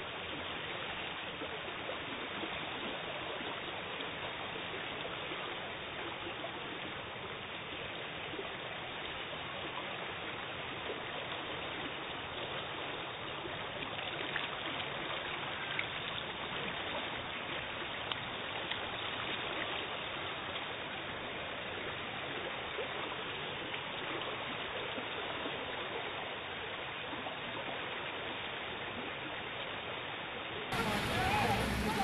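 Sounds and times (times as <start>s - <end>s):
floodwater rushing: 0.0s - 32.0s.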